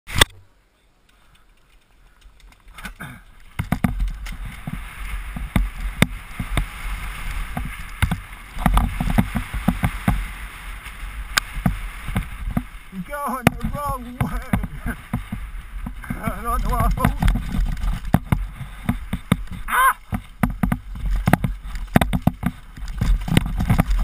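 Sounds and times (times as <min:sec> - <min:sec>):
wind and tyres rumbling: 0:00.1 - 0:24.0
bike knocks and rattles: 0:01.4 - 0:10.4, 0:11.4 - 0:24.0.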